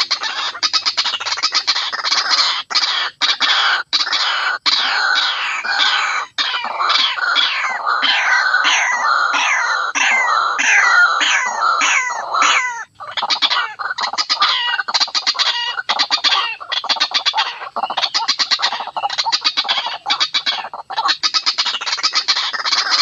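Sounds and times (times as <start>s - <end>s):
waterhen calling: 0.0s - 23.0s.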